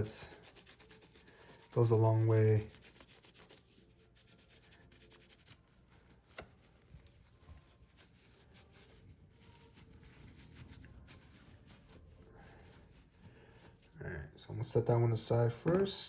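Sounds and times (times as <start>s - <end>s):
faint rubbing of polishing: 0.0s - 16.0s.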